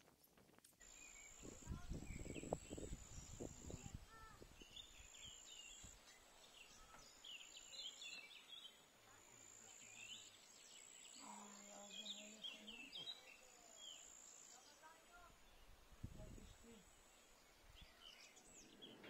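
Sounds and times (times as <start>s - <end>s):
small birds chirping: 0.8s - 19.0s.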